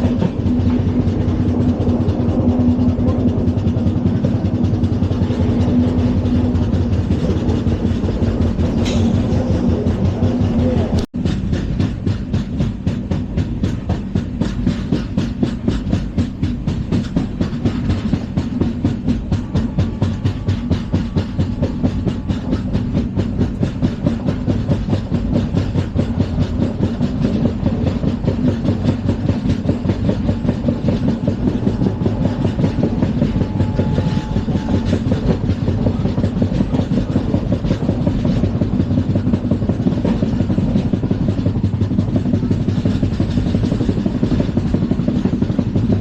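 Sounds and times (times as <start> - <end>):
train coaches rumbling: 0.0 - 46.0
wheels clattering over track: 0.0 - 46.0.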